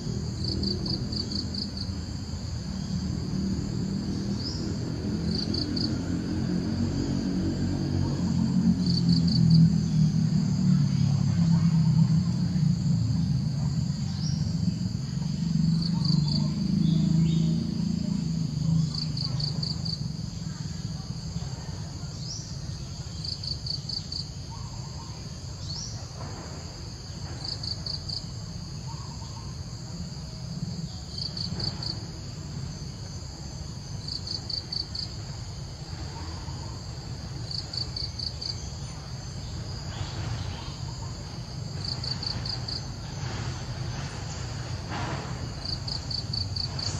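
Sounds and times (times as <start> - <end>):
insects trilling and chirping: 0.0 - 46.9.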